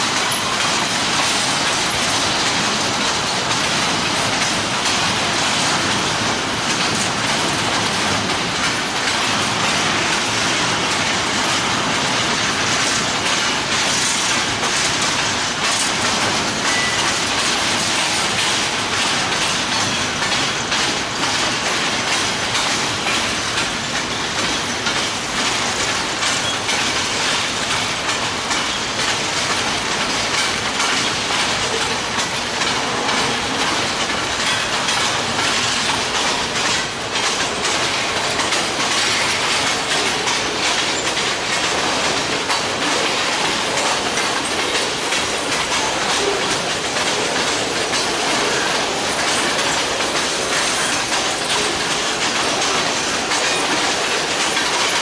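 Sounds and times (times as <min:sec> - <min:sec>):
clattering over rail joints: 0:00.0 - 0:55.0
steel wheels rolling on rail: 0:00.0 - 0:55.0.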